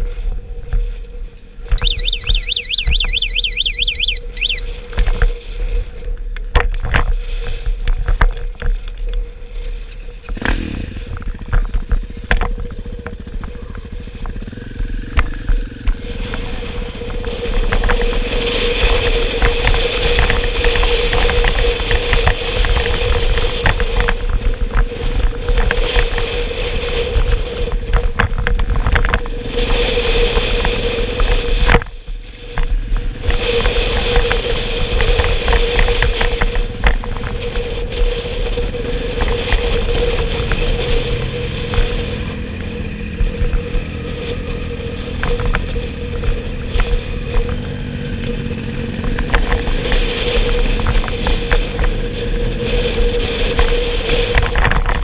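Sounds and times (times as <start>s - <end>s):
motorcycle engine humming: 0.0s - 55.0s
wind rushing on microphone: 0.0s - 55.0s.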